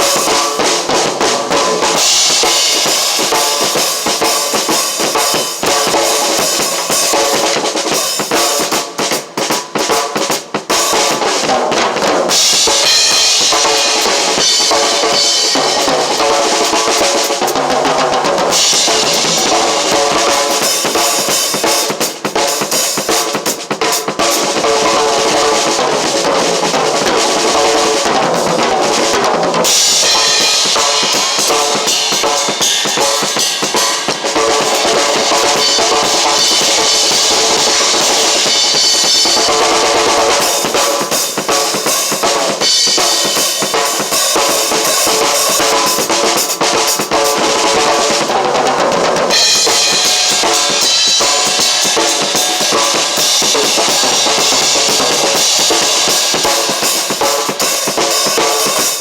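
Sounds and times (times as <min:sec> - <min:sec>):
cymbals crashing: 0:00.0 - 0:09.3, 0:12.3 - 0:23.6, 0:24.3 - 0:48.3, 0:49.1 - 0:59.0
bass drum: 0:00.0 - 0:59.0
snare drum: 0:00.0 - 0:59.0.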